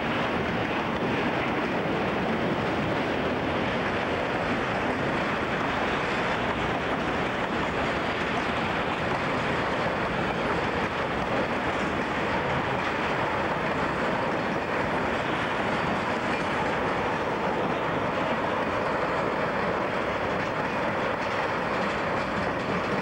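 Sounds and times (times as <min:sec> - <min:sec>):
muffled freight train passing: 0:00.0 - 0:23.0.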